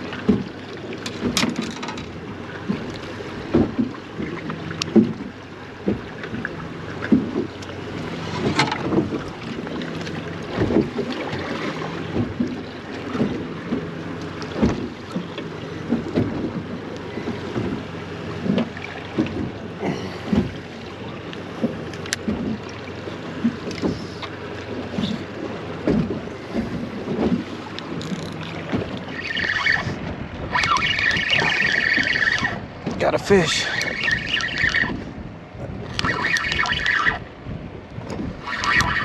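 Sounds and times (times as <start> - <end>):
water slapping boat hull: 0.0 - 39.0
wind buffeting microphone: 0.0 - 39.0.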